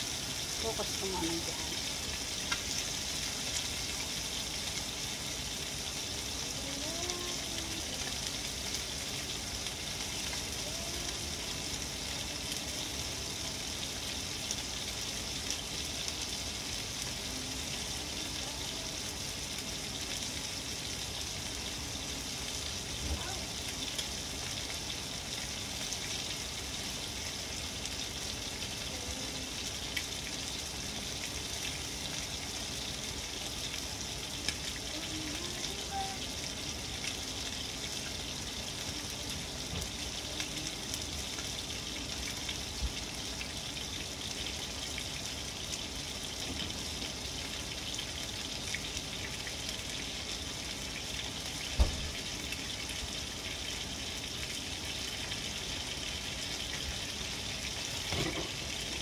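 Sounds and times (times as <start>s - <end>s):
chicken sizzling in a pan: 0.0s - 59.0s.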